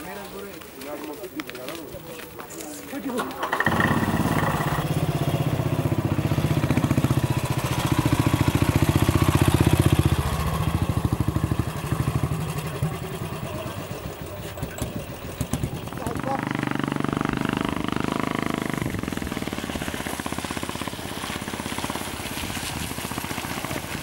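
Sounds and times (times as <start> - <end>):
single-cylinder engine running: 3.2 - 24.0.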